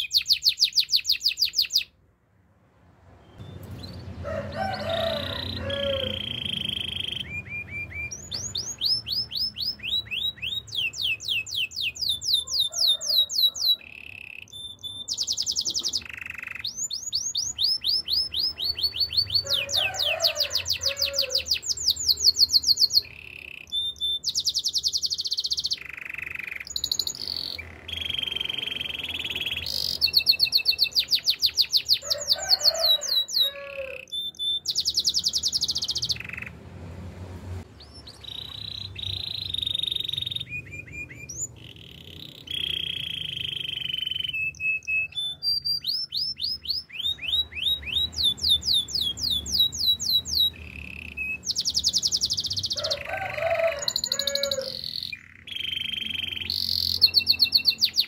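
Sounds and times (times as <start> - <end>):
canary singing trills: 0.0 - 2.0, 3.1 - 36.6, 37.6 - 58.0.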